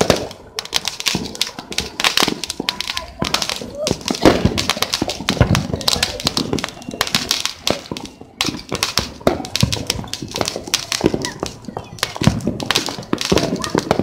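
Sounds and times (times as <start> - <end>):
firecrackers popping and banging: 0.0 - 14.0.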